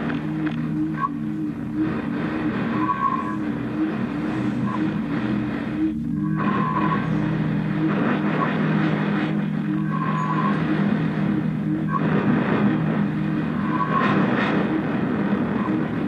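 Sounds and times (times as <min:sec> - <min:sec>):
low drone: 0:00.0 - 0:16.0
wavering tone: 0:00.0 - 0:16.0.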